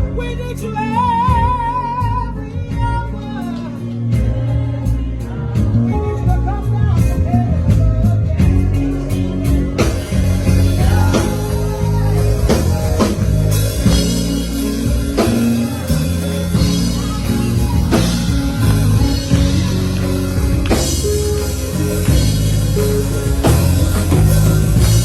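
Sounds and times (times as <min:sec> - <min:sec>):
live church band music: 0:00.0 - 0:25.0.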